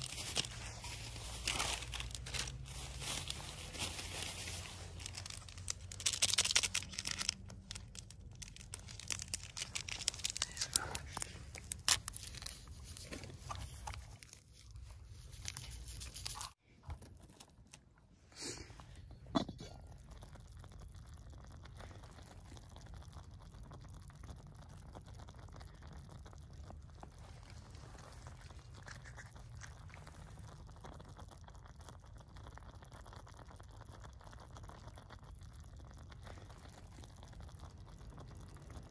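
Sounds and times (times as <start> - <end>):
fire crackling and popping: 0.0 - 16.6, 20.0 - 38.9.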